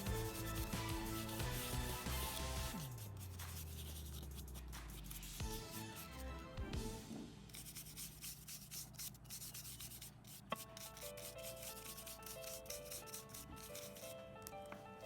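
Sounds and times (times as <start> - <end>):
soft background music: 0.0 - 8.7, 10.5 - 15.0
scratchy crackling workshop noise: 0.0 - 14.9.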